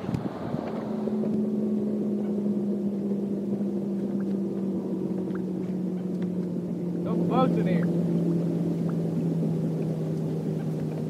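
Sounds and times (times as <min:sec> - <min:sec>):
electric trolling motor humming: 0:00.1 - 0:11.0.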